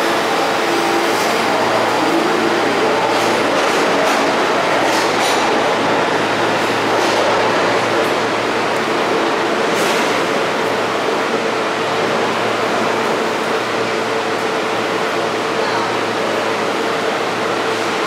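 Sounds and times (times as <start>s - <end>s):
subway train rail rumble: 0.0s - 18.0s.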